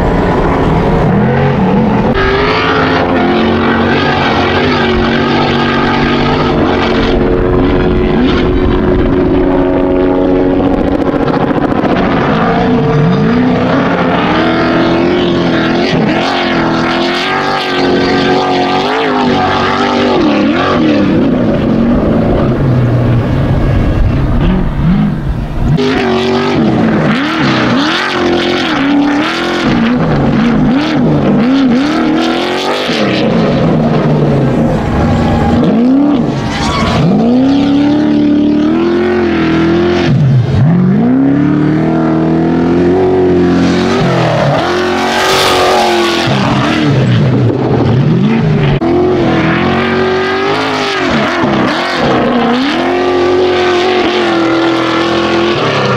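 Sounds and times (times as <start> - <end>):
truck engine revving: 0.0 - 55.9.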